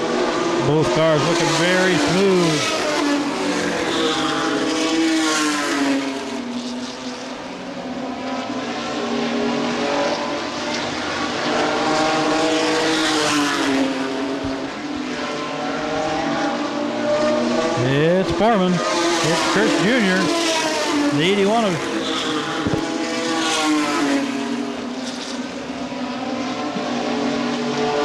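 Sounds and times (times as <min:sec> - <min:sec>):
race truck engines passing: 0:00.0 - 0:28.0.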